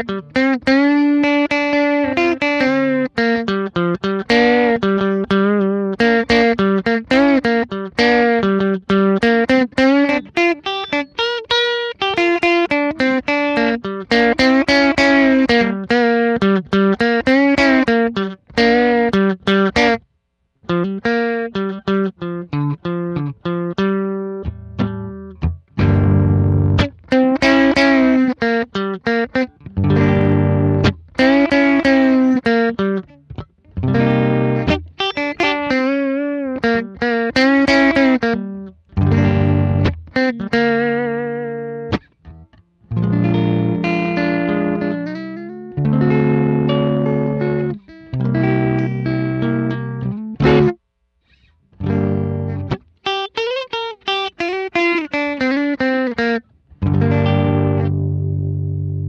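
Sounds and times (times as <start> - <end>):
electric guitar blues lead: 0.0 - 20.0, 20.6 - 59.0.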